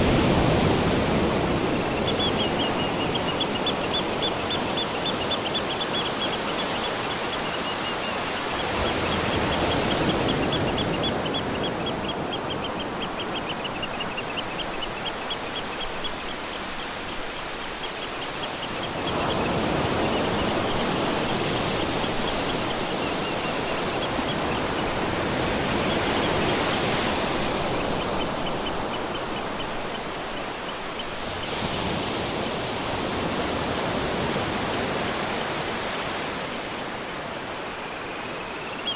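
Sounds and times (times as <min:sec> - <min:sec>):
ocean surf washing: 0:00.0 - 0:38.9.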